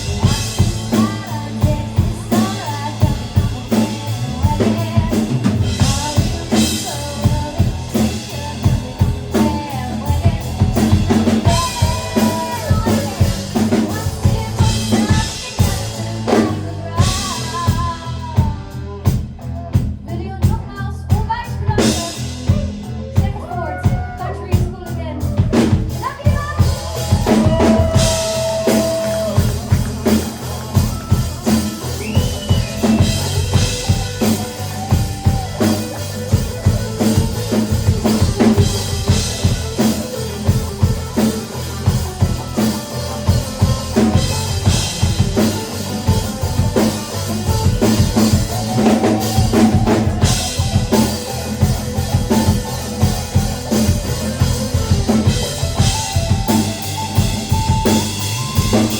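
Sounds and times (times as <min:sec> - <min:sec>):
live rock band: 0:00.0 - 0:58.9.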